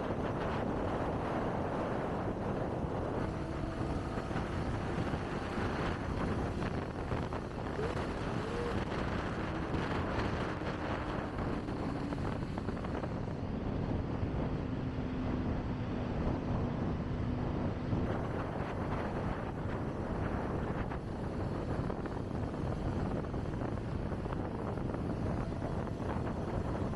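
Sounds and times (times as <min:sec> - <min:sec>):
faint passing traffic: 0:00.0 - 0:26.9
motorcycle engine running: 0:00.0 - 0:26.9
wind rushing over microphone: 0:00.0 - 0:26.9.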